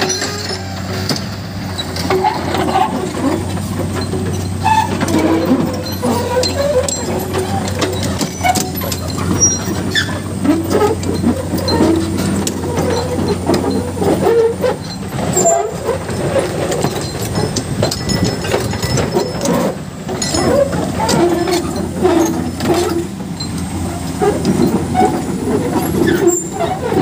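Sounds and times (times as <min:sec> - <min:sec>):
diesel engine running: 0:00.0 - 0:27.0
metallic clanking and squeaking: 0:00.0 - 0:27.0.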